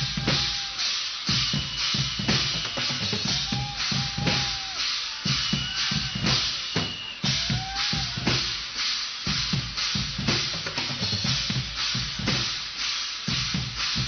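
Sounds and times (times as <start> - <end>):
band playing drum-driven music: 0.0 - 14.0
bass drum and snare beating: 0.0 - 14.0.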